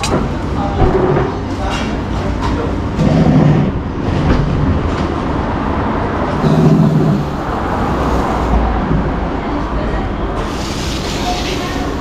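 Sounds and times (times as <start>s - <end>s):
heavy traffic rumble: 0.0s - 12.0s.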